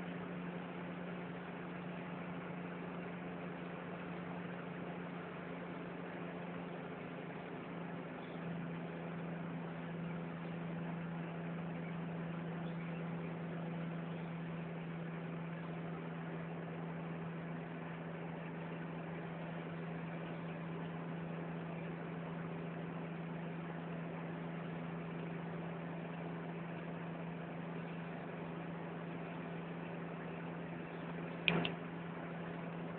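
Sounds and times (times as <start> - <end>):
low hum: 0.0 - 32.9
road and engine noise in car: 0.0 - 32.9.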